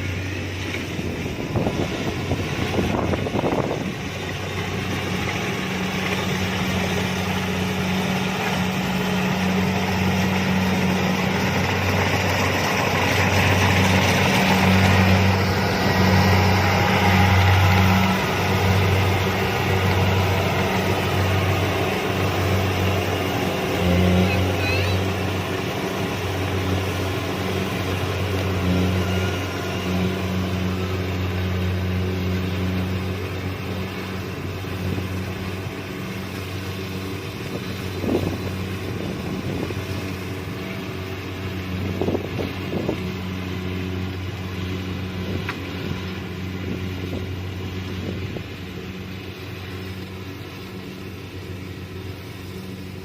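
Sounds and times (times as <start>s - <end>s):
combine harvester running: 0.0s - 53.0s.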